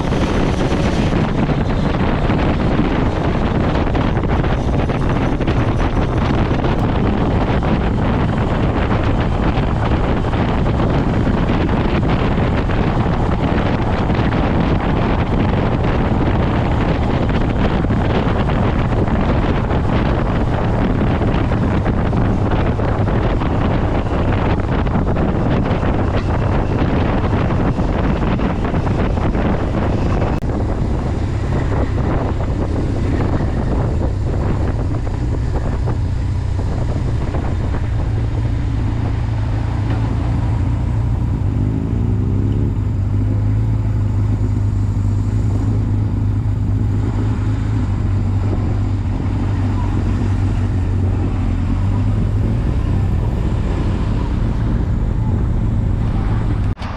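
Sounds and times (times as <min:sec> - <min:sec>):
motorcycle engine drone: 0:00.0 - 0:56.9
wind rushing over microphone: 0:00.0 - 0:56.9.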